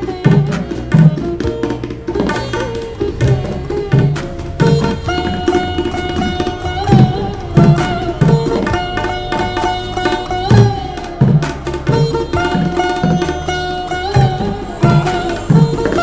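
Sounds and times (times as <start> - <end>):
hand drum strokes and slaps: 0.0 - 16.0
melodic backing music: 0.0 - 16.0.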